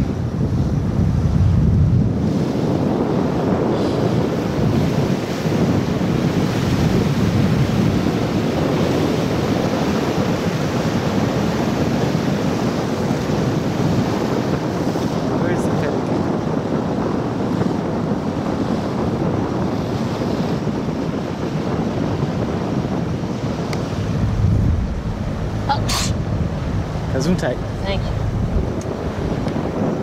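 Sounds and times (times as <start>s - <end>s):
water rushing along boat hull: 0.0s - 30.0s
wind buffeting microphone: 0.0s - 30.0s.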